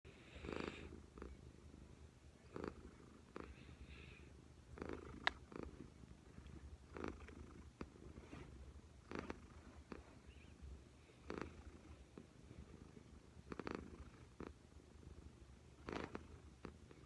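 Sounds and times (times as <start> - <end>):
cat purring: 0.1 - 17.0.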